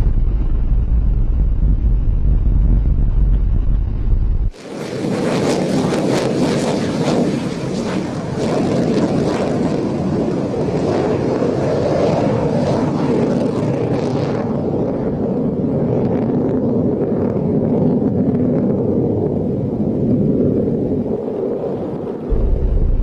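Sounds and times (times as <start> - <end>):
jet engine rumbling: 0.0 - 23.0
wind buffeting microphone: 0.0 - 23.0.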